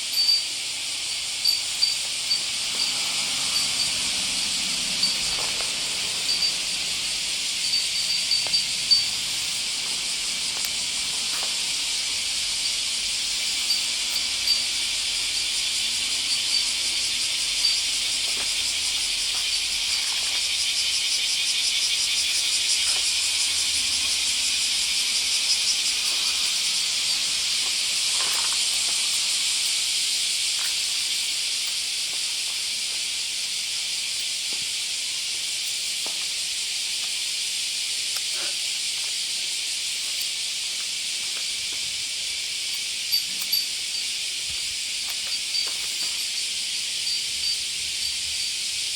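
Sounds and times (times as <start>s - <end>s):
cicadas buzzing: 0.0s - 48.9s.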